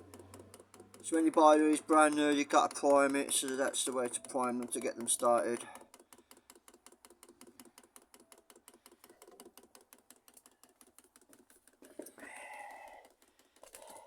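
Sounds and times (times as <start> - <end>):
fuel pump clicking rapidly: 0.0 - 14.0.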